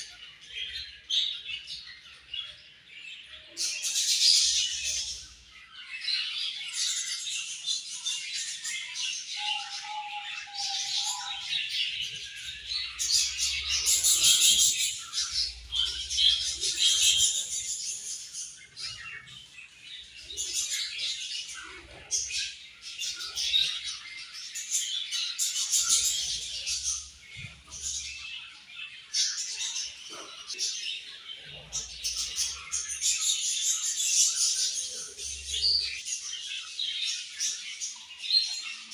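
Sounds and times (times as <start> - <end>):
budgerigars chirping: 3.4 - 38.9.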